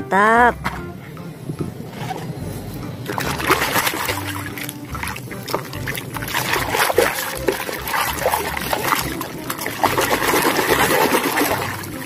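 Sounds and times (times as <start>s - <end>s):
water trickling and splashing: 1.7s - 12.0s.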